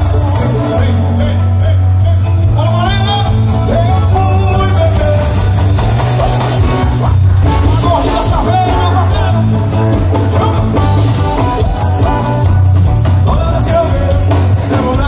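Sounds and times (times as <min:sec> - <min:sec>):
accordion: 0:00.0 - 0:15.0
drum kit: 0:00.0 - 0:15.0
electric guitar: 0:00.0 - 0:15.0
heavy bass: 0:00.0 - 0:15.0.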